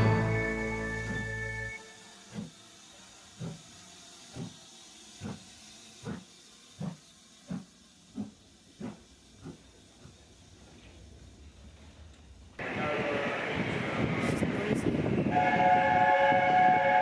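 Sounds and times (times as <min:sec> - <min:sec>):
steam hissing: 0:00.0 - 0:17.0
steam locomotive exhaust chuffs: 0:00.0 - 0:17.0.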